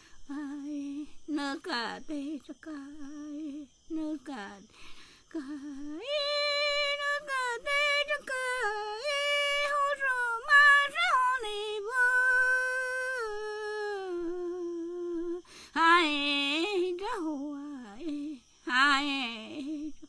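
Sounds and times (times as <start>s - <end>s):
woman singing unaccompanied: 0.0s - 20.0s.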